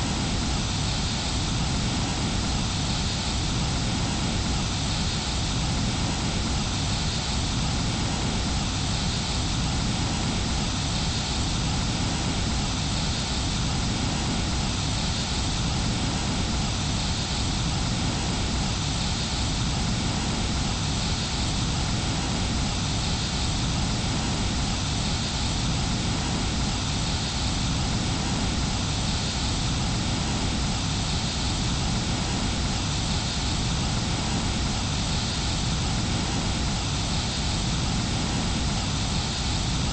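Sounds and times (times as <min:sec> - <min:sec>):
faint hiss: 0:00.0 - 0:39.9.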